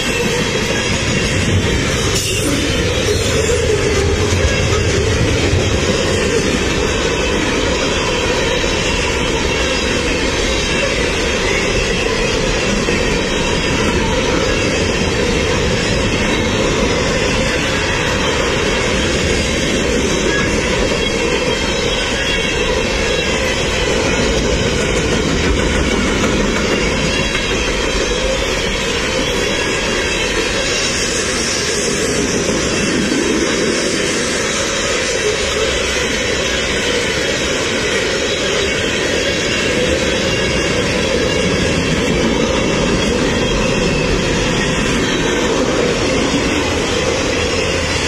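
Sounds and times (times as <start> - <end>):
freight train cars rolling past: 0.0 - 48.0.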